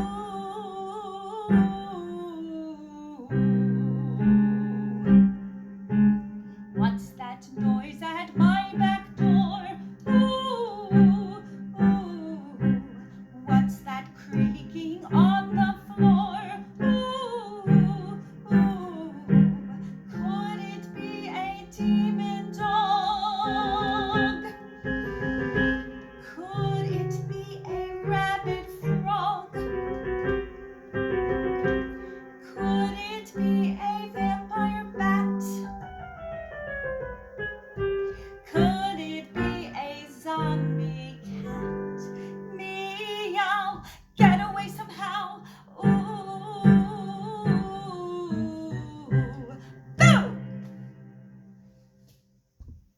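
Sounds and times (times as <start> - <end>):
woman singing: 0.0 - 5.4, 6.8 - 30.6, 31.3 - 36.0, 38.0 - 50.8
piano accompaniment: 0.0 - 52.9.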